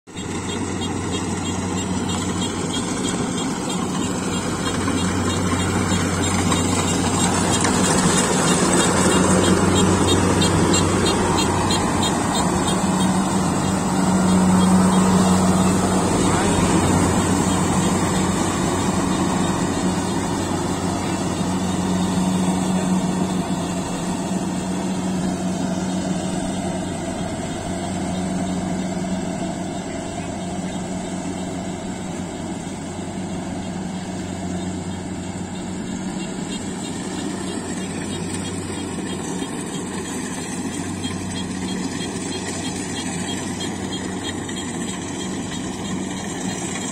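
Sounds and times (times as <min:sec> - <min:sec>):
combine harvester engine hum: 0:00.1 - 0:46.9.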